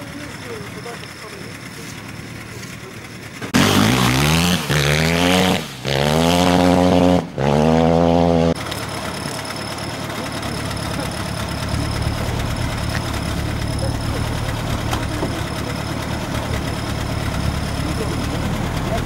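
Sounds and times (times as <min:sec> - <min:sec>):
motocross bike accelerating: 0:00.0 - 0:19.0.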